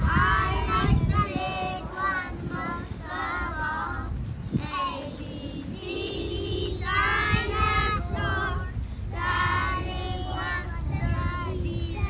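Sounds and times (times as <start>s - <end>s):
children singing together: 0.0s - 12.0s
steady low rumble: 0.0s - 12.0s.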